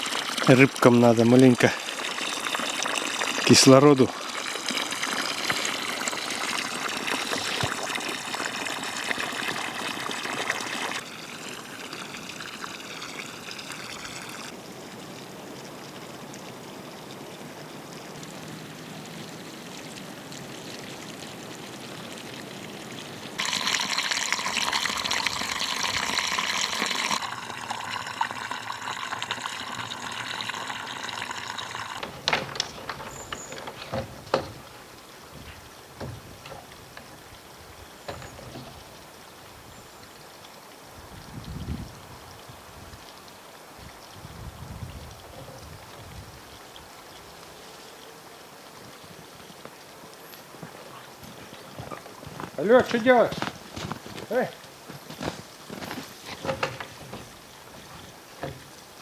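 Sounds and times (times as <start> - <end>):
water pouring and splashing: 0.0 - 47.7, 48.6 - 59.0.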